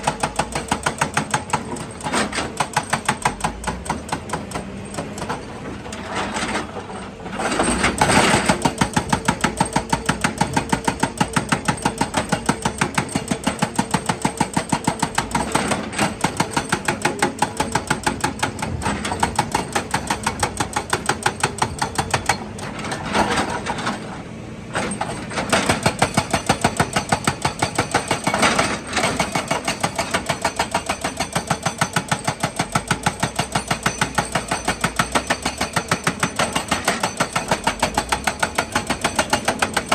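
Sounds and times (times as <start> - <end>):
machinery hammering rock: 0.0 - 5.3, 8.0 - 22.6, 25.3 - 39.9.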